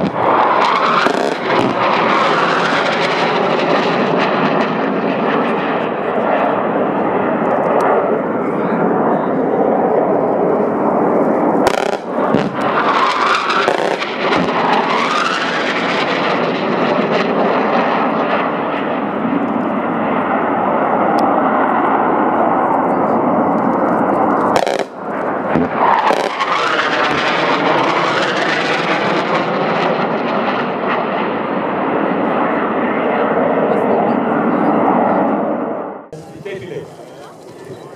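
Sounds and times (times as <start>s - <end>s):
military jet flying past: 0.0s - 37.9s.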